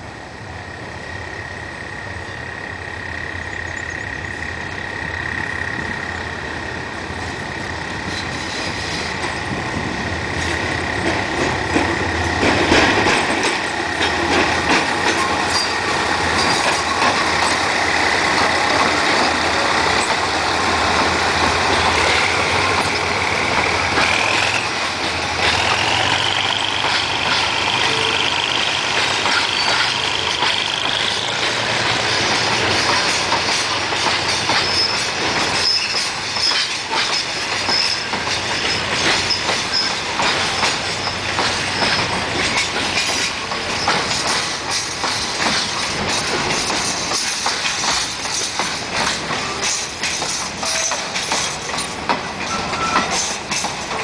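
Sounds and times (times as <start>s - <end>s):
diesel locomotive: 0.0s - 54.0s
train wheels clicking over rail joints: 0.7s - 54.0s.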